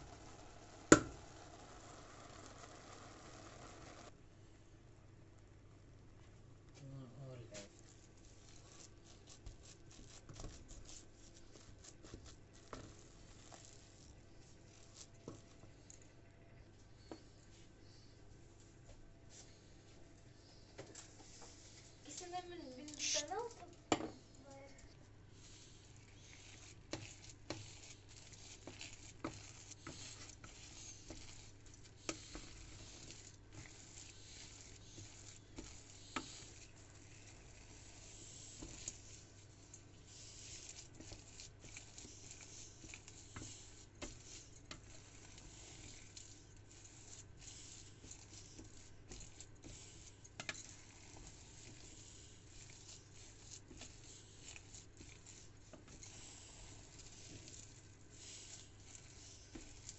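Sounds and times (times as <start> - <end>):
spatula squishing and scraping rice: 0.0 - 4.2, 6.8 - 20.1, 20.9 - 59.9.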